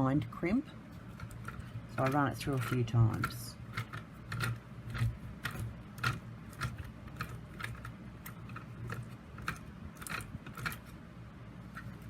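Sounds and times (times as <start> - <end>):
paper crimper clicking: 1.1 - 11.0.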